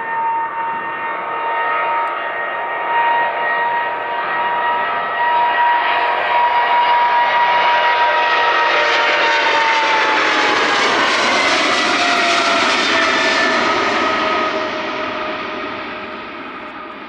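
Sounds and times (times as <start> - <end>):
jet engines running at high power: 0.0 - 17.0.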